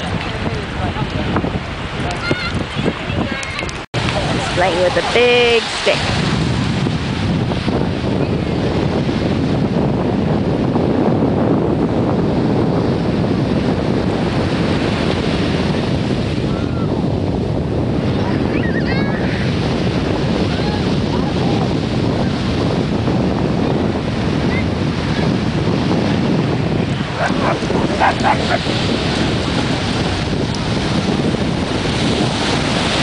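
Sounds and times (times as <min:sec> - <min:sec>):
ocean surf: 0:00.0 - 0:10.9, 0:11.8 - 0:33.0
wind on microphone: 0:00.0 - 0:33.0.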